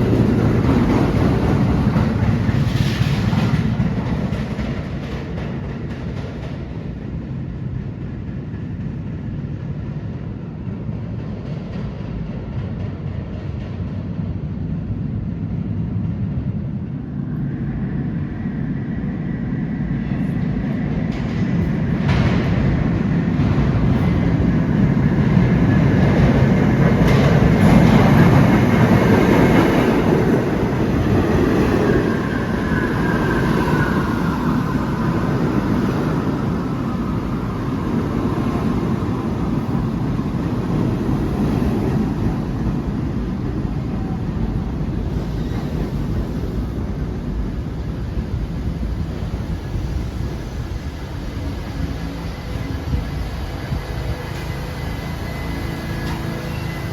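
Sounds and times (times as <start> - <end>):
subway train running: 0.0 - 56.9.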